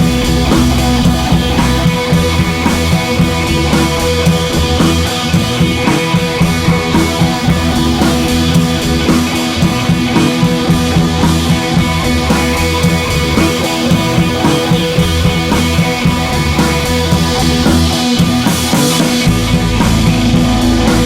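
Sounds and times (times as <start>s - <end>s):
rock music with drums and guitar: 0.0s - 21.0s.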